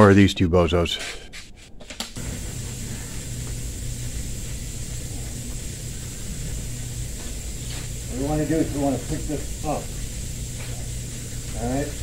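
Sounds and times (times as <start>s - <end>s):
low machine hum: 2.2s - 12.0s.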